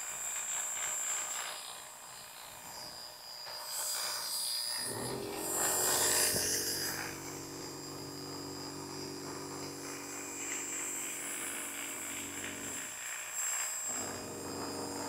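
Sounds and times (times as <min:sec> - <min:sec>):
electric hair clippers humming: 0:00.0 - 0:15.0.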